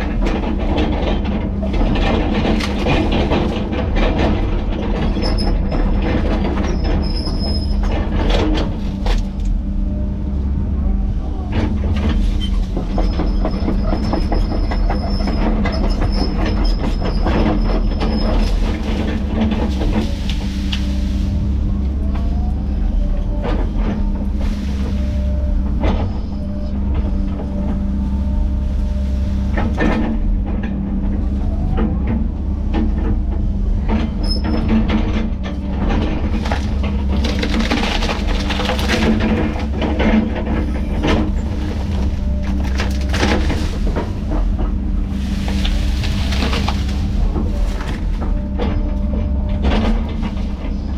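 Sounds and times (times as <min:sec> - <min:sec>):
metal clanks from tracks: 0:00.0 - 0:10.2, 0:11.2 - 0:50.9
tracked diesel machine engine: 0:00.0 - 0:50.9.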